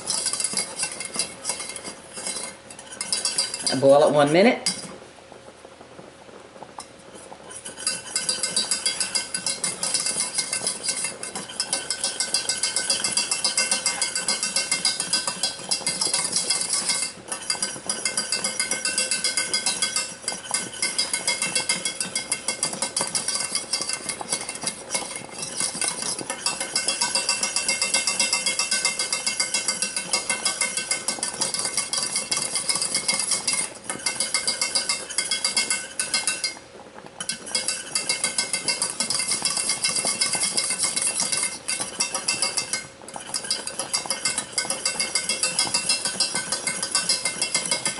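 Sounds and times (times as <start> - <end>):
metal spoon stirring in saucepan: 0.0 - 5.0, 6.8 - 36.6, 37.2 - 47.9.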